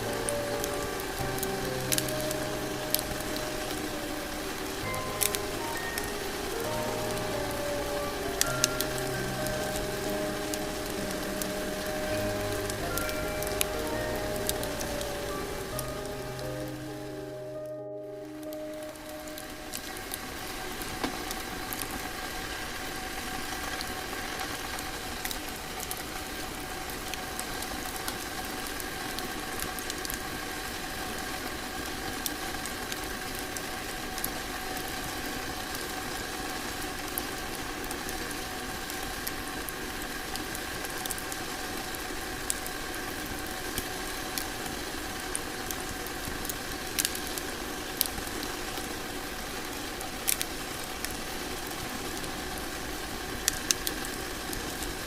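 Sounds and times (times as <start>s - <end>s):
log fire crackling and popping: 0.0s - 17.4s, 18.2s - 55.0s.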